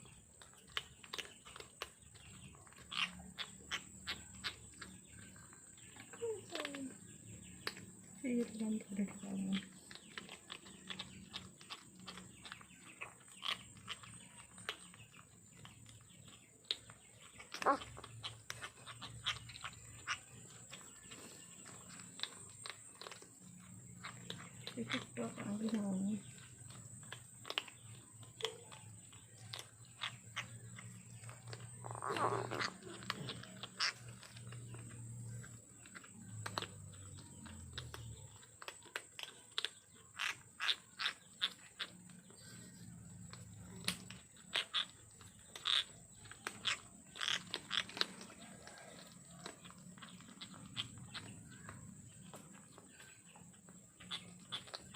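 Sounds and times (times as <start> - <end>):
kittens chewing and smacking: 0.0 - 54.9.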